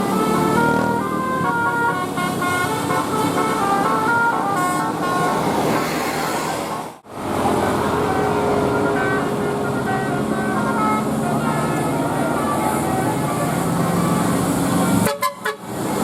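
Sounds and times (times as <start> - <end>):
musical bus horn melody: 0.0 - 6.4, 7.7 - 16.0.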